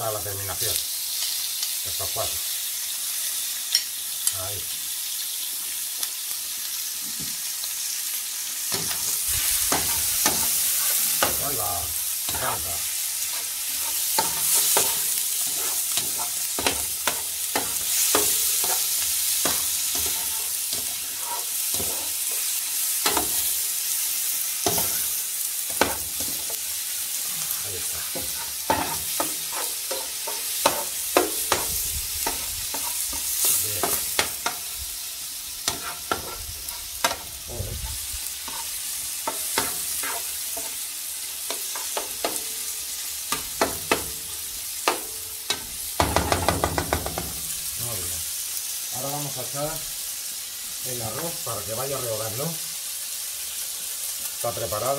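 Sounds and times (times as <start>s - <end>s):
seafood sizzling in a pan: 0.0s - 54.9s.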